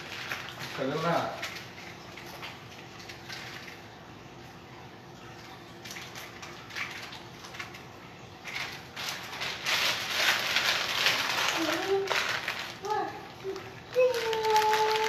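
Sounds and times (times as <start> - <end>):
plastic bag crinkling: 0.0 - 3.9, 6.0 - 15.0.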